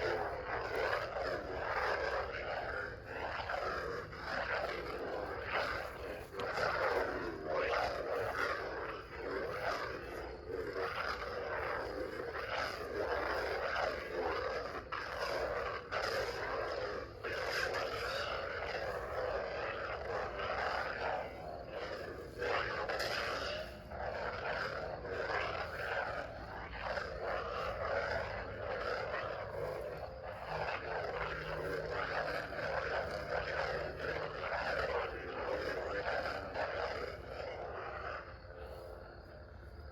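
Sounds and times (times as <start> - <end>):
lightsaber humming: 0.0 - 39.9.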